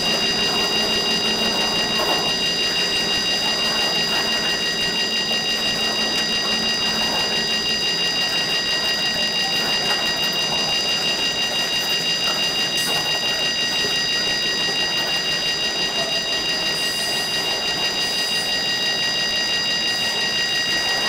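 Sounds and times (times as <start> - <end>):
high-pitched tone: 0.0 - 18.9
freight train cars rumbling: 0.0 - 21.0.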